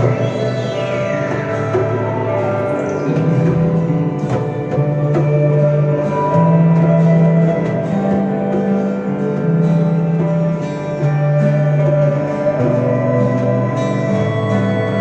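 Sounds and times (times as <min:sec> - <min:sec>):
live band instrumental music: 0:00.0 - 0:15.0.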